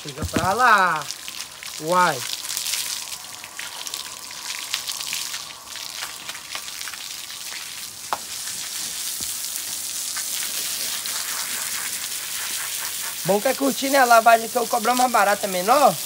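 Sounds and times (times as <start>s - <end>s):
hose water spraying and splashing: 0.0s - 16.0s.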